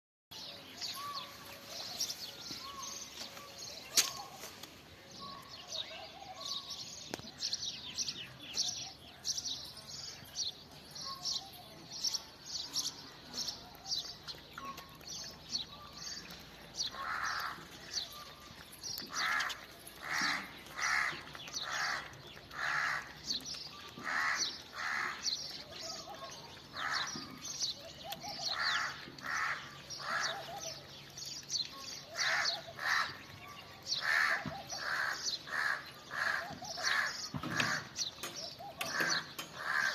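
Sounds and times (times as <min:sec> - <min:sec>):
birds chirping rapidly: 0:00.3 - 0:39.9.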